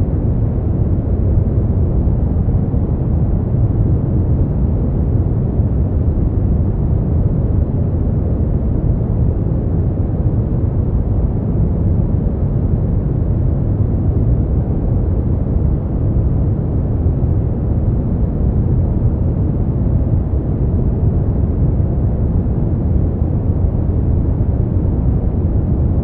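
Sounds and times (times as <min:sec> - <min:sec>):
deep rumbling white noise: 0:00.0 - 0:26.0.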